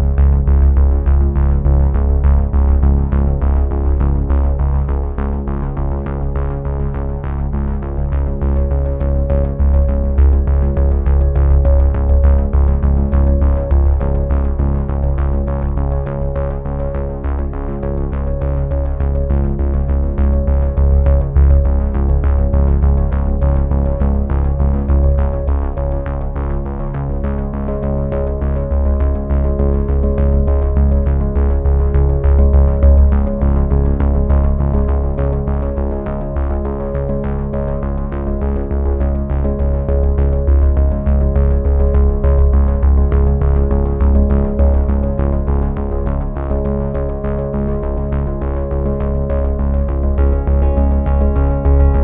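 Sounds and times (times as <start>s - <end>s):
synthesizer music with bass and beat: 0.0s - 52.0s.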